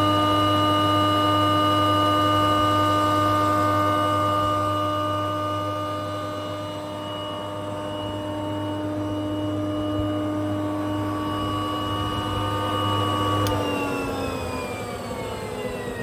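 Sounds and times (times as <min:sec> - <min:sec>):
woodworking machine humming: 0:00.0 - 0:16.0.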